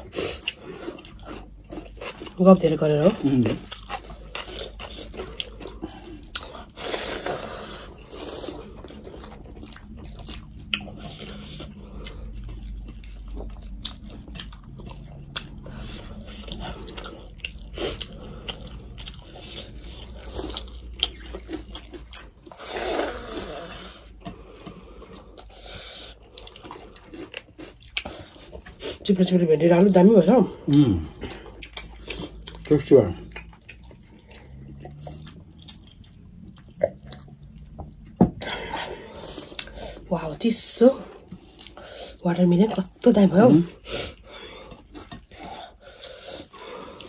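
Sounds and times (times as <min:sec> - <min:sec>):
people chewing and crunching food: 0:00.0 - 0:47.0.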